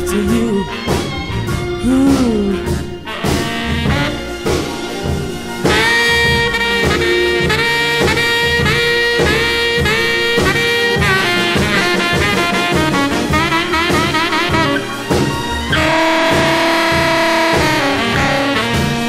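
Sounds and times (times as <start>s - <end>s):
bass and drum beat: 0.0s - 19.0s
horn section playing chords: 0.0s - 19.0s.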